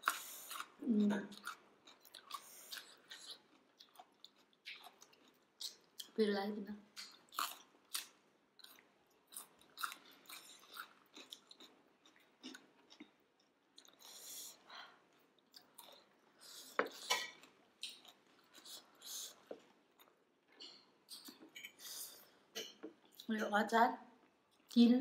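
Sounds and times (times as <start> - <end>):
people chewing dumplings: 0.0 - 6.2, 6.9 - 23.3.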